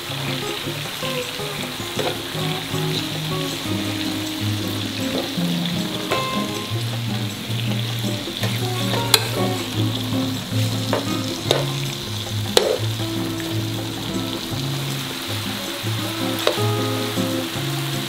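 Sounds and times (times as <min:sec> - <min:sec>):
duck sizzling in a pan: 0:00.0 - 0:18.0.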